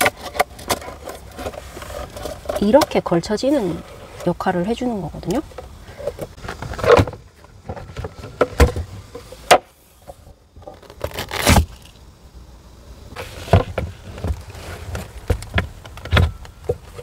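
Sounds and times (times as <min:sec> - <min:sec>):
rustle: 0:00.0 - 0:17.0.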